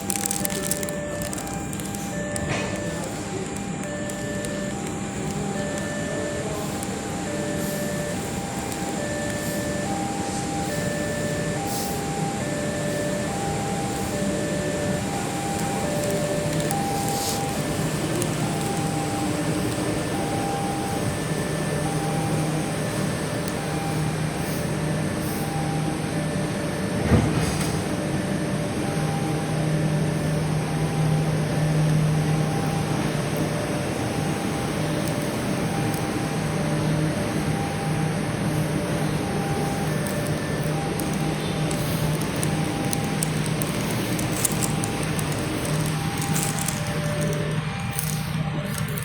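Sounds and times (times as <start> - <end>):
diesel locomotive rumbling: 0.0 - 25.7, 28.6 - 49.0.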